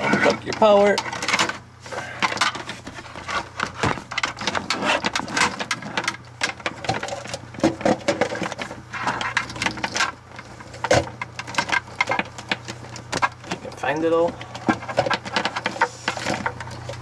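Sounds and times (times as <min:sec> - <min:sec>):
cable plugs clicking and scraping: 0:00.0 - 0:17.0.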